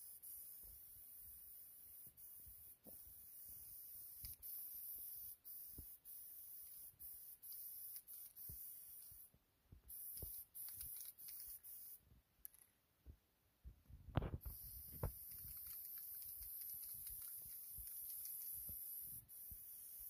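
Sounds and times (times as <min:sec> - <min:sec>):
aerosol spray can hissing: 0:00.0 - 0:09.3, 0:09.9 - 0:12.0, 0:14.5 - 0:20.0.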